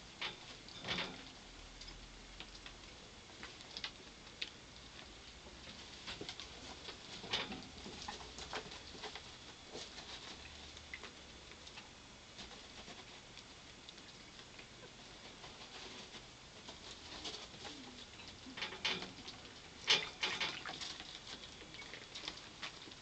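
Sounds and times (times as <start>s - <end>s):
rats eating with small clicks: 0.0s - 23.0s.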